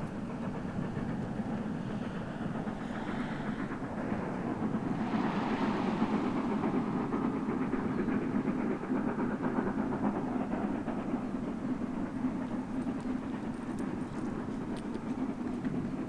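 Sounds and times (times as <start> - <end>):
steam train running: 0.0 - 16.0.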